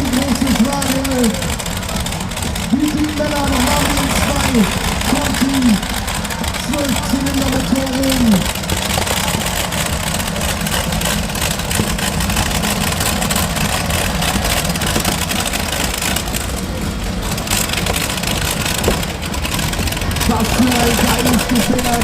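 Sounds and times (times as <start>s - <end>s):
tractor engines running loud: 0.0s - 22.0s.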